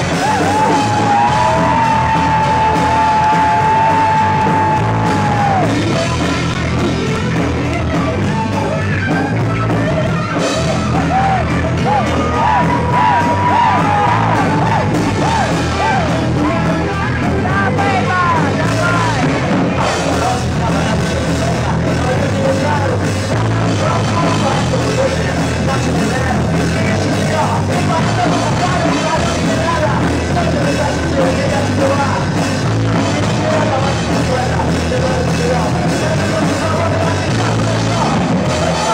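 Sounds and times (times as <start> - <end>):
lead guitar melody with bending notes: 0.0 - 38.9
live rock band playing: 0.0 - 38.9.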